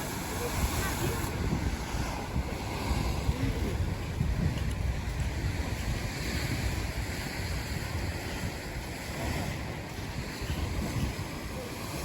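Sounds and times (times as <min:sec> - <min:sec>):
lake waves breaking on shore: 0:00.0 - 0:12.0
wind gusting across microphone: 0:00.0 - 0:12.0.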